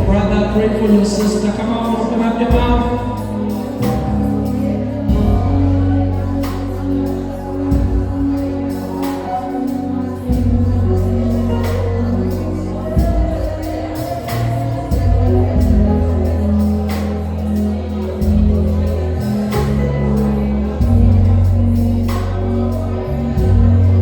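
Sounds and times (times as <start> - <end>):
deep bass notes: 0.0 - 24.0
gospel singing over a band: 0.0 - 24.0.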